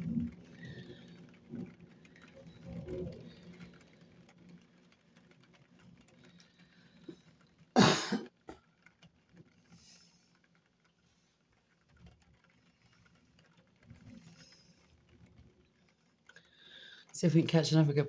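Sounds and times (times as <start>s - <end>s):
rain pattering on a window: 0.0s - 18.0s.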